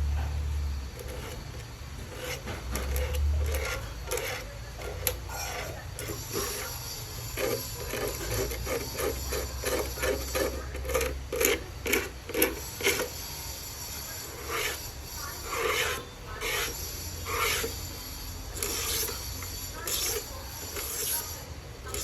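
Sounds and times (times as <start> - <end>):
scraping strokes: 0.9 - 22.0.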